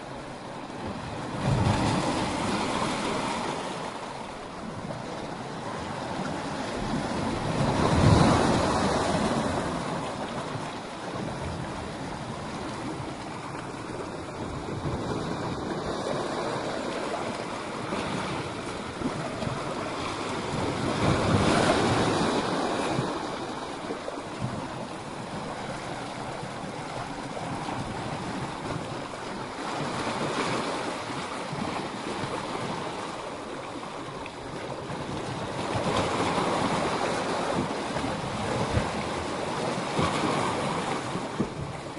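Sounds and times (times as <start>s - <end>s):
waves breaking over rocks: 0.0s - 41.9s.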